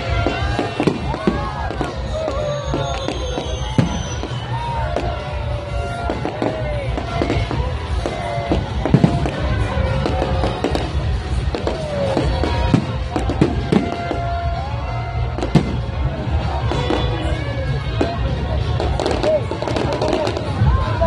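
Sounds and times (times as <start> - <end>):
fireworks bursting and crackling: 0.0 - 21.0
music: 0.0 - 21.0.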